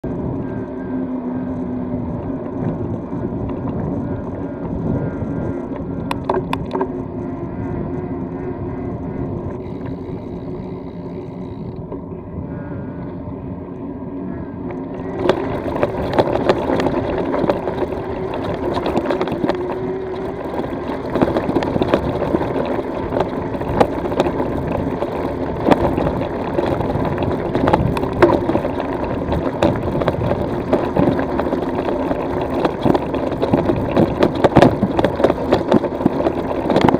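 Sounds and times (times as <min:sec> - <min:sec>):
e-bike humming on tarmac: 0:00.0 - 0:36.9.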